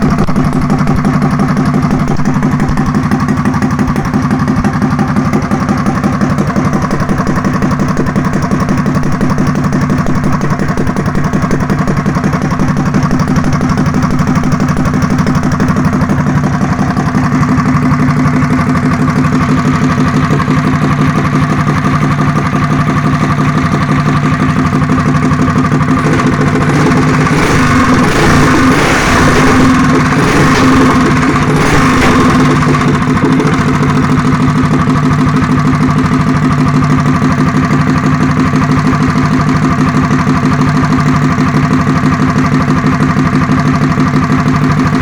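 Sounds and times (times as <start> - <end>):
mini bike engine idling: 0.0 - 45.0.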